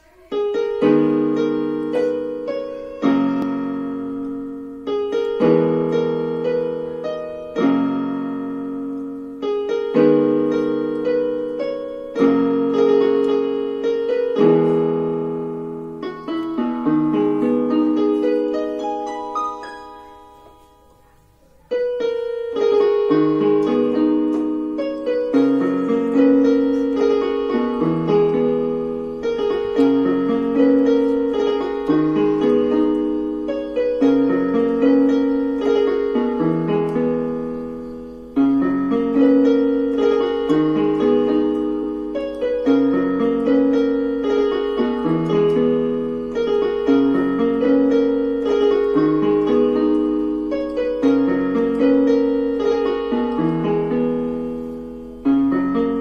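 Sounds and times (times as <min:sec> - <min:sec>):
electronic keyboard piano melody: 0:00.0 - 0:56.0.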